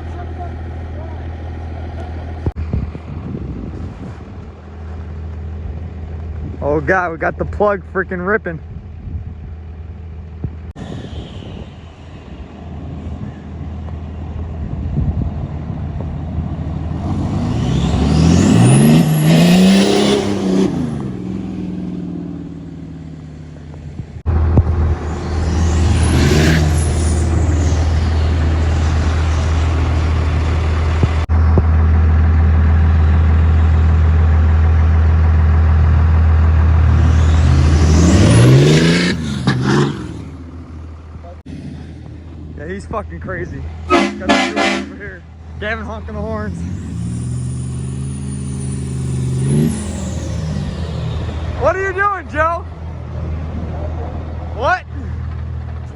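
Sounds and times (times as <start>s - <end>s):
pickup truck engine revving: 9.8s - 55.7s.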